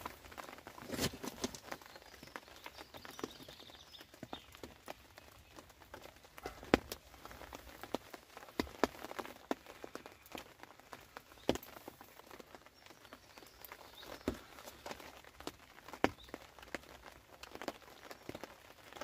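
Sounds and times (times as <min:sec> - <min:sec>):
raindrops tapping on umbrella: 0:00.0 - 0:19.0.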